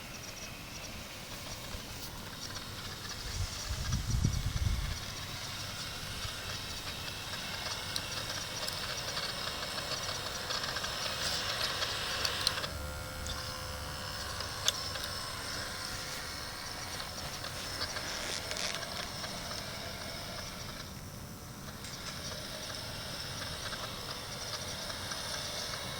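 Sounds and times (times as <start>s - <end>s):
small electric motors whirring: 0.0s - 25.9s
steady hiss: 0.0s - 25.9s.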